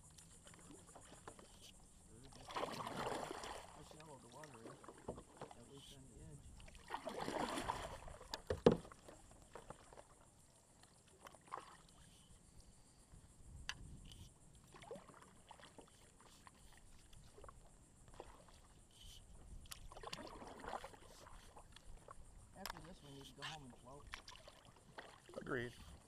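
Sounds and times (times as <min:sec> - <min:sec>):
paddle strokes splashing water: 0:00.0 - 0:12.9, 0:13.8 - 0:26.0.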